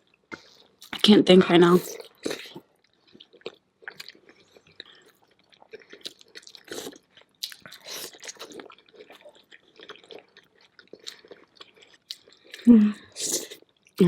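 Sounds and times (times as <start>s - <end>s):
close chewing with wet smacks: 0.0s - 14.0s.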